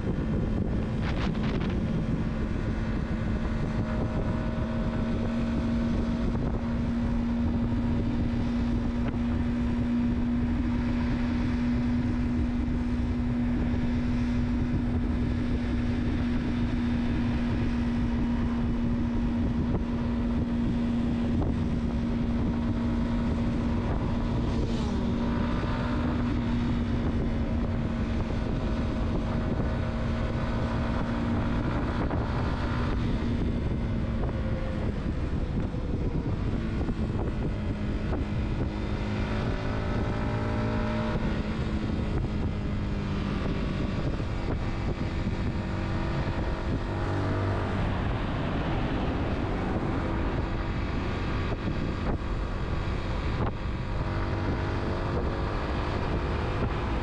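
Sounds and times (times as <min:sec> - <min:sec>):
car engine: 0:00.0 - 0:57.0
tyre and road noise: 0:00.0 - 0:57.0.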